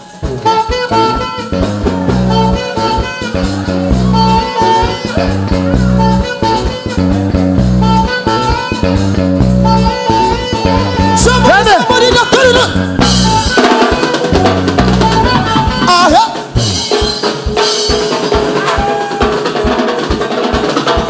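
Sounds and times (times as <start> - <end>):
electric bass guitar: 0.0 - 19.3
saxophone melody: 0.0 - 19.9.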